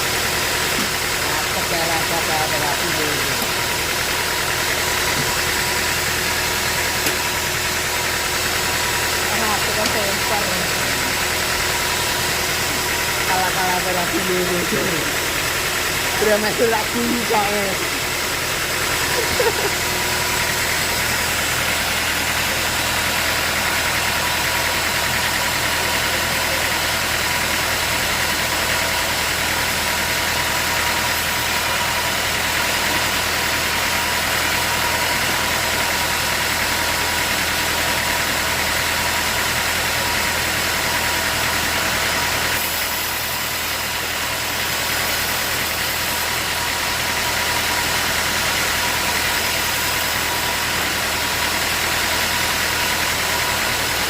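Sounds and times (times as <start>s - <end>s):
sawmill machinery whining: 0.0s - 54.0s.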